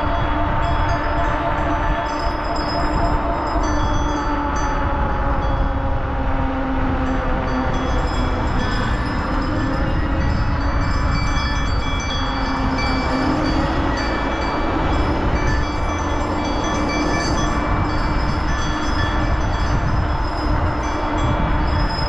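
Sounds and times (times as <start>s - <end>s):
hum of held tones: 0.0s - 22.0s
wind and road rumble: 0.0s - 22.0s.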